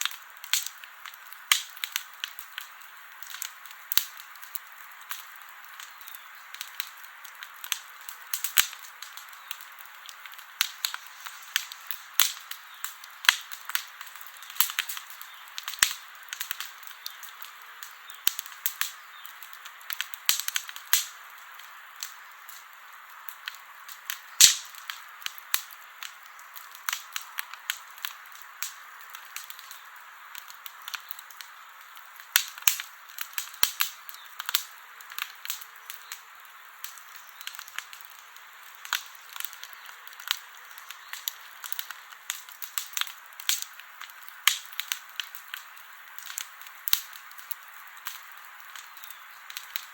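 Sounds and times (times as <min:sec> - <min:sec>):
campfire crackling and popping: 0:00.0 - 0:49.9
hiss of burning: 0:00.0 - 0:49.9.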